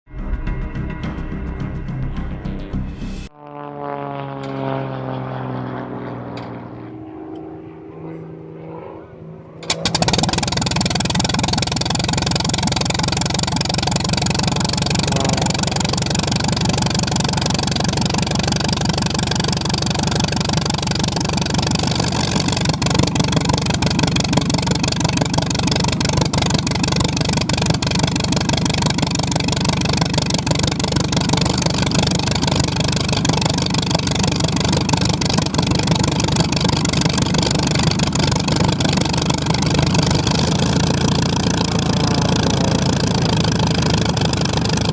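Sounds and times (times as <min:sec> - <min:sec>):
aircraft piston engine running: 0:00.2 - 0:44.9.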